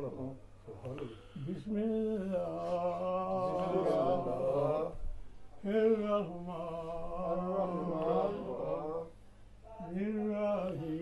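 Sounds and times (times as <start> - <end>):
man chanting: 0.0 - 5.0, 5.6 - 11.0.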